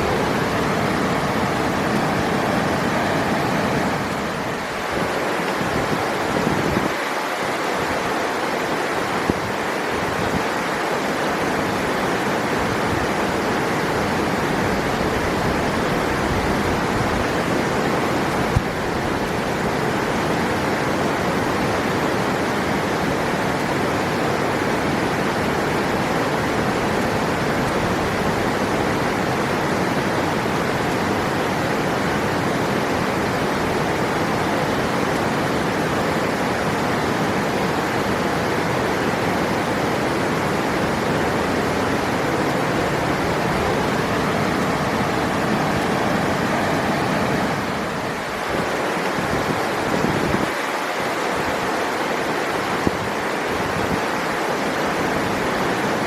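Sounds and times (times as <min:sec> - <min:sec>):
rushing river water: 0:00.0 - 0:56.0.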